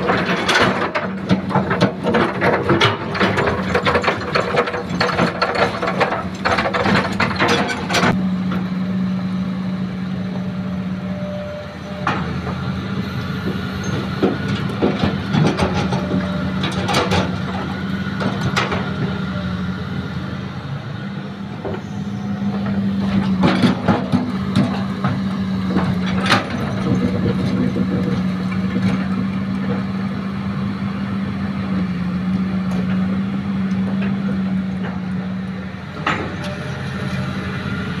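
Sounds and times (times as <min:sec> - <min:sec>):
diesel machinery running: 0:00.0 - 0:38.0.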